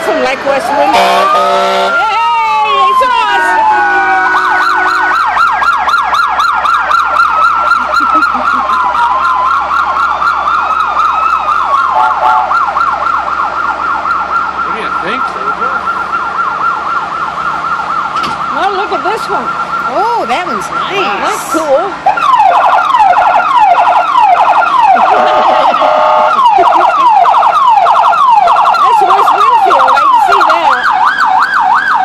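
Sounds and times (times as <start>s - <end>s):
fire truck siren wail: 0.0s - 32.0s
fire truck siren yelp: 0.0s - 32.0s.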